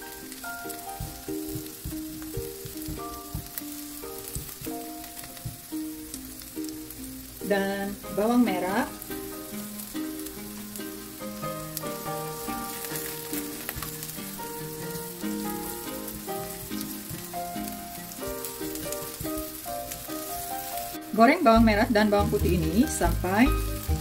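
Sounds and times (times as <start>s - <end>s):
background music with held notes: 0.0s - 24.0s
onions sizzling in frying pan: 0.0s - 24.0s.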